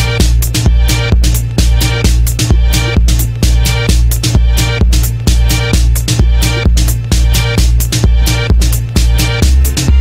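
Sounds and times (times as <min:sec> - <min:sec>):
fast beat music with heavy bass: 0:00.0 - 0:10.0.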